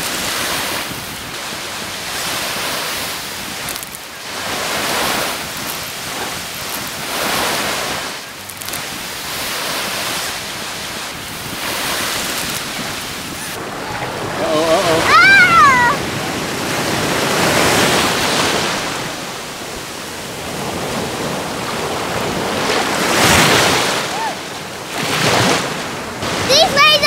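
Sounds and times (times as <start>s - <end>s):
small waves breaking on sand: 0.0s - 27.0s.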